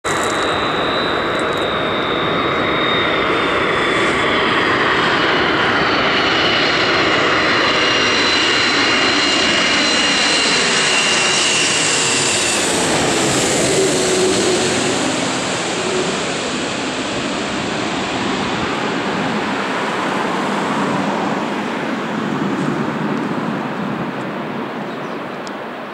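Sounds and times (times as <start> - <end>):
jet airliner passing overhead: 0.0 - 25.9.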